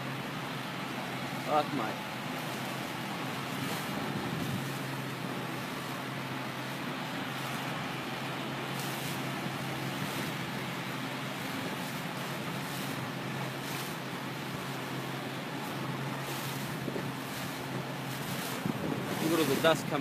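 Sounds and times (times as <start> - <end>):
boat engine humming: 0.0 - 20.0
wind and water rushing: 0.0 - 20.0.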